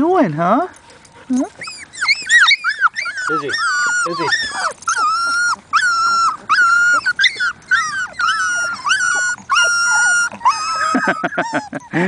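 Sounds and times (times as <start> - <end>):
puppies whining: 0.7 - 12.0
short low puppy yelps: 1.6 - 11.6.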